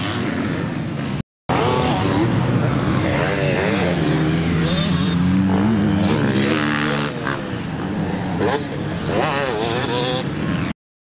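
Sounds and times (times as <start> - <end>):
dirt bike engines revving: 0.0 - 10.8.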